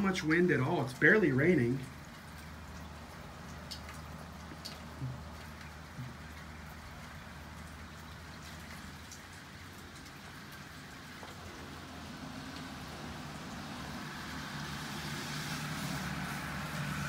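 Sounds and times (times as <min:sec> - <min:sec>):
light rain: 0:00.0 - 0:17.0.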